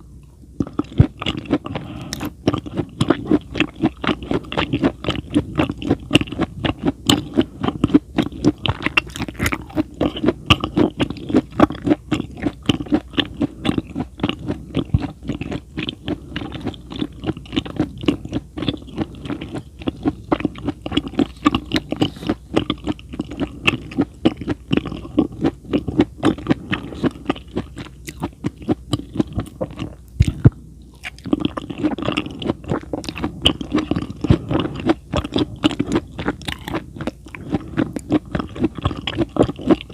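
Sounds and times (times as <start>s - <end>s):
wet chewing and crunching: 0.6s - 39.9s.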